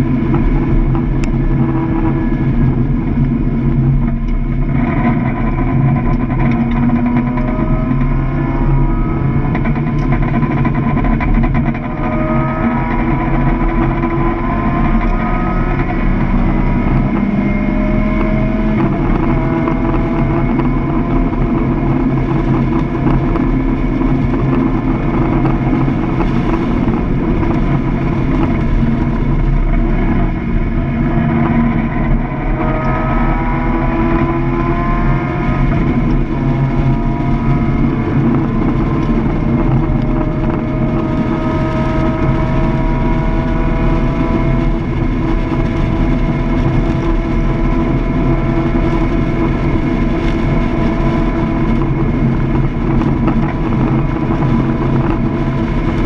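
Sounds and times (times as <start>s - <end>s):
car engine running hard: 0.0s - 56.0s
road and wind noise: 0.0s - 56.0s.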